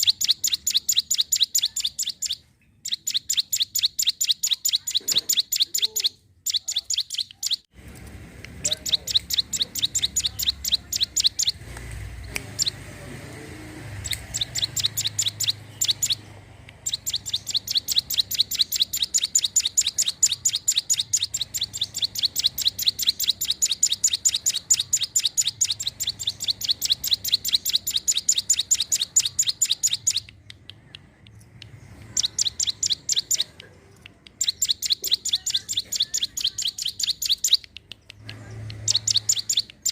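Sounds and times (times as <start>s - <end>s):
bird singing rapid chirps: 0.0s - 7.7s, 8.6s - 39.9s.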